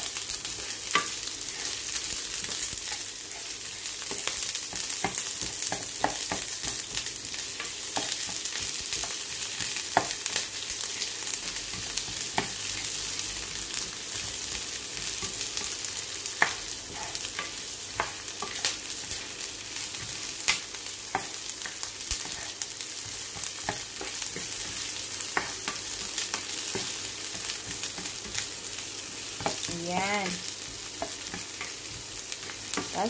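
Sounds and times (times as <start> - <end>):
onions sizzling in hot oil: 0.0 - 33.0
spatula stirring in pan: 0.0 - 33.0.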